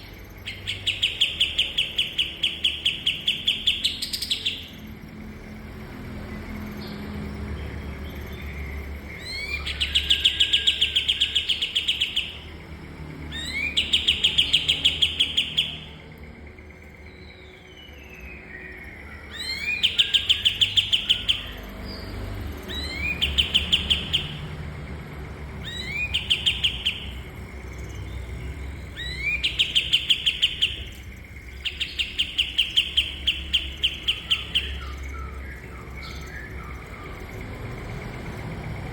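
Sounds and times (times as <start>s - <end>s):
songbird chattering trill: 0.0s - 5.0s, 8.0s - 16.1s, 16.8s - 24.6s, 25.2s - 37.2s.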